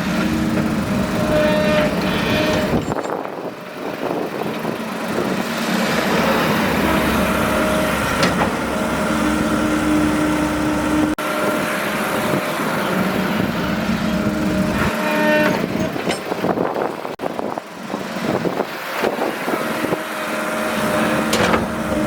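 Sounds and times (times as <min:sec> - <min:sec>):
diesel engine running: 0:00.0 - 0:22.0
hydraulic whine: 0:00.0 - 0:22.0.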